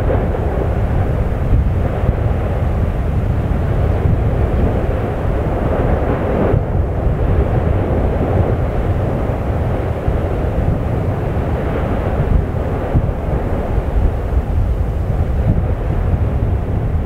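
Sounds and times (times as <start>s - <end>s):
volcano roaring rumble: 0.0s - 17.0s.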